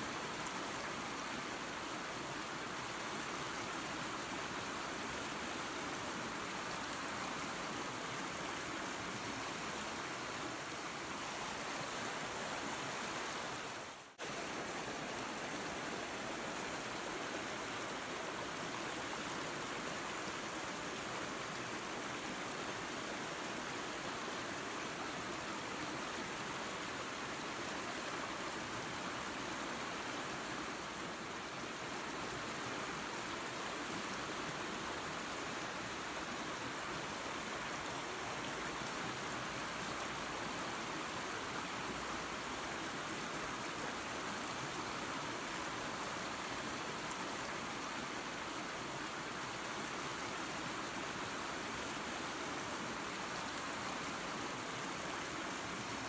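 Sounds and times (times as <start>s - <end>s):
waterfall and creek rushing: 0.0s - 56.0s.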